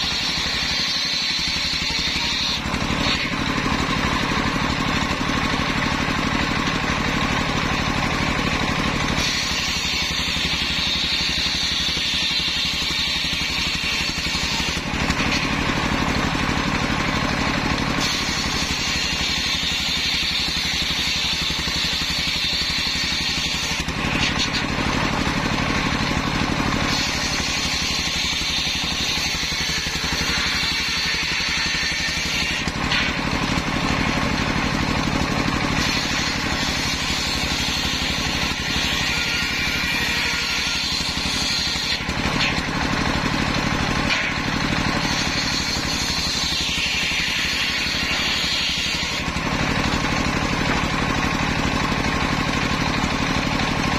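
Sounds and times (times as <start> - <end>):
saw blade cutting wood: 0.0 - 53.9
sawmill engine running: 0.0 - 53.9.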